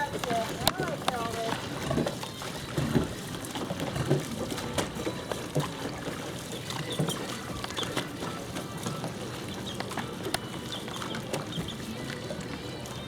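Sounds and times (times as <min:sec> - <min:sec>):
oars knocking: 0:00.0 - 0:12.1
water splashing off oars: 0:00.0 - 0:13.0.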